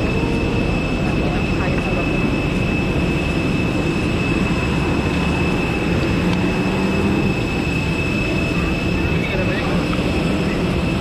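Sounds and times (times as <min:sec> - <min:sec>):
jet turbine rumble and whine: 0:00.0 - 0:11.0.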